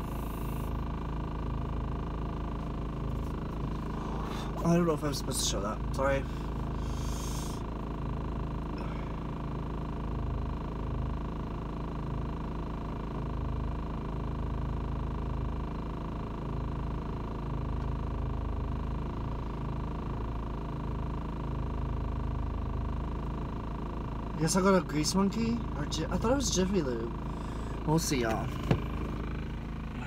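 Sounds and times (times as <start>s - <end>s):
van engine idling: 0.0s - 30.0s.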